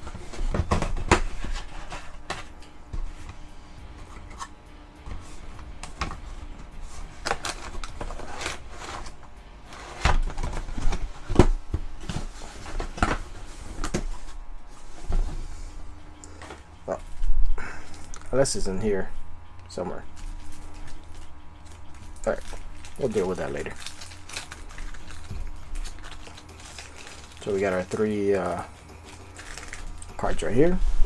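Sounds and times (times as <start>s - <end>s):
packaging tapping and rustling: 0.0s - 4.5s, 5.1s - 15.5s, 20.1s - 30.7s.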